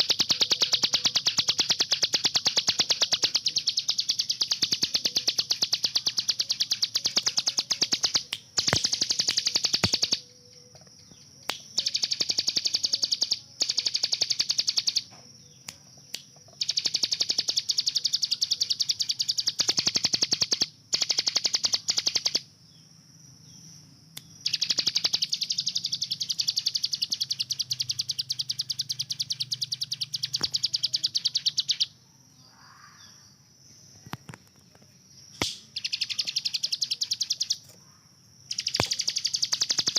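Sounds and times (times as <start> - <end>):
bird singing rapid trills: 0.0 - 34.1, 35.0 - 39.9.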